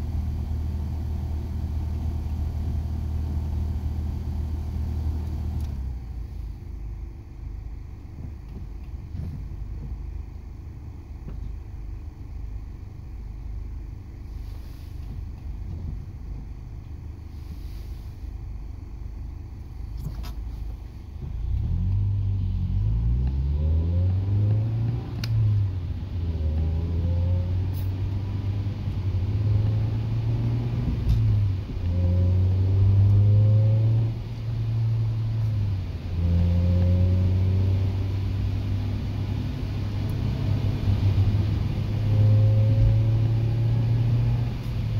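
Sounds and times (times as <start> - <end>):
car engine from inside cabin: 0.0 - 44.9.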